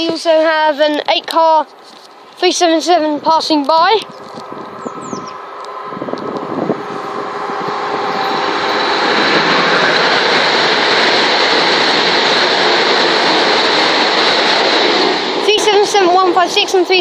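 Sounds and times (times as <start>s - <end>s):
high steady whine: 0.0s - 17.0s
train wheels rushing: 0.0s - 17.0s.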